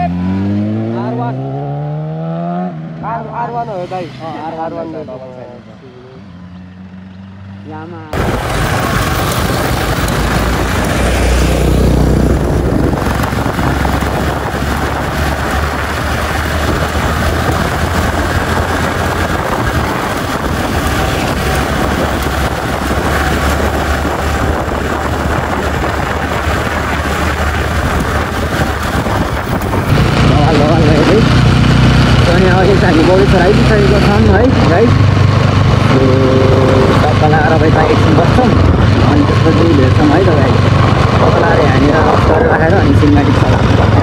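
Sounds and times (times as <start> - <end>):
motorcycle engine: 0.0 - 44.0
wind rush on microphone: 8.1 - 44.0.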